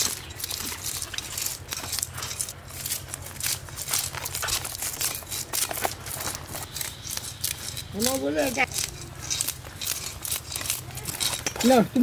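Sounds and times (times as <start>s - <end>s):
knife scraping fish scales: 0.0s - 12.0s.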